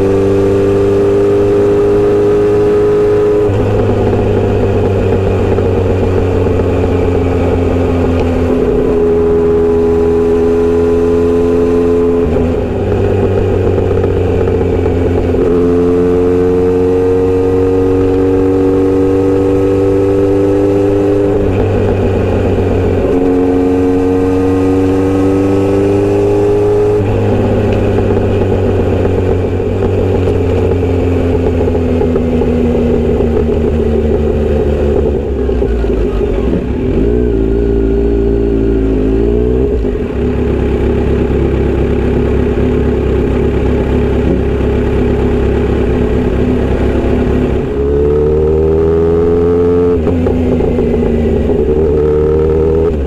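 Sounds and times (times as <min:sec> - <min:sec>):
motorcycle engine shifting gears: 0:00.0 - 0:53.0.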